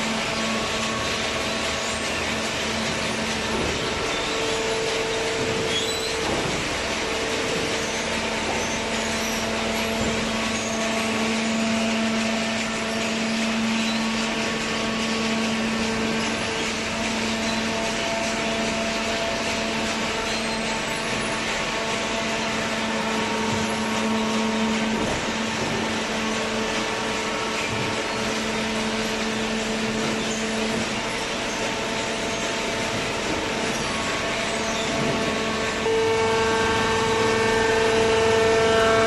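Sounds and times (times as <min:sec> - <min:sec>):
hydraulic pump whine: 0:00.0 - 0:39.0
machine hum: 0:00.0 - 0:39.0.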